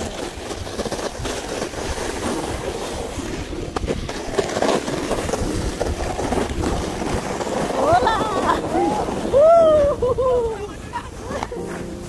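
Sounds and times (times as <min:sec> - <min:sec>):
sledge runners scraping on snow: 0:00.0 - 0:12.0.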